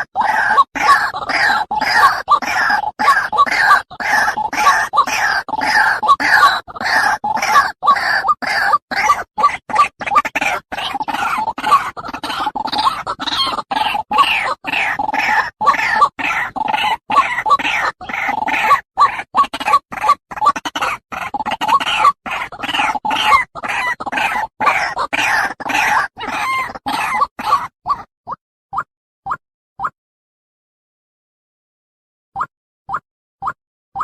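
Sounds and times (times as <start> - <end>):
waterhen rough calls: 0.0 - 28.1.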